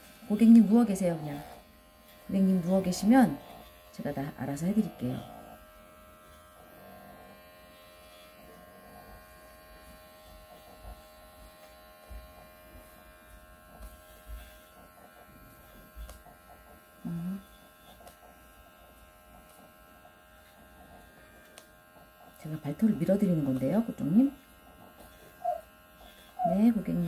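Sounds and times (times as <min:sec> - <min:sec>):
electric pet clipper buzzing: 0:00.0 - 0:27.0.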